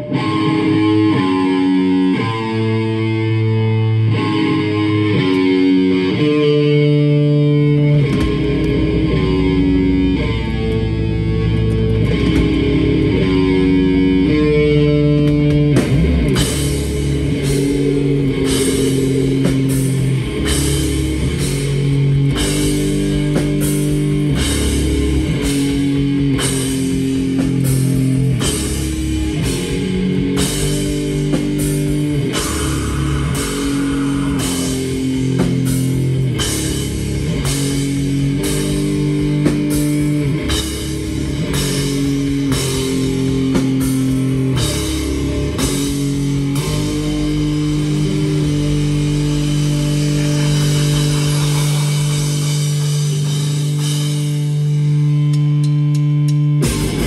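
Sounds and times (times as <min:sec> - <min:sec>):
bass guitar: 0:00.0 - 0:57.0
drum kit with cymbals: 0:00.0 - 0:57.0
electric guitars riff: 0:00.0 - 0:57.0.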